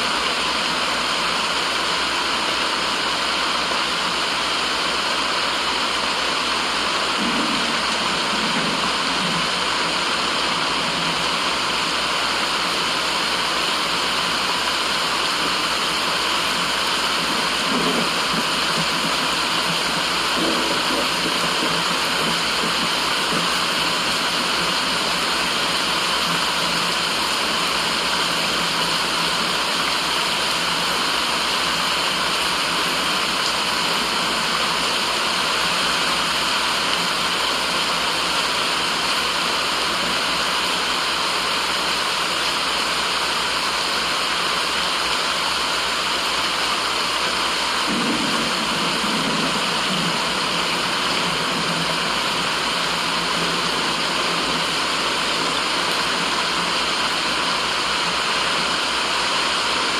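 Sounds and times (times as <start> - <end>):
rushing white noise: 0.0 - 59.9.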